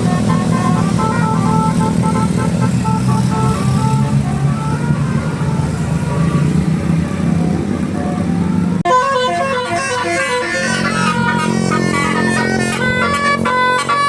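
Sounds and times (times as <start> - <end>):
bus engine running: 0.0 - 14.0
musical bus horn melody: 0.0 - 14.0.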